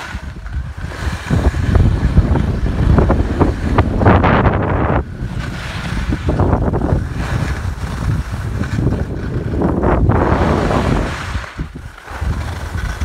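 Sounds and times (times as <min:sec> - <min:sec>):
skis scraping across snow: 0:00.0 - 0:13.0
wind buffeting microphone: 0:00.0 - 0:13.0.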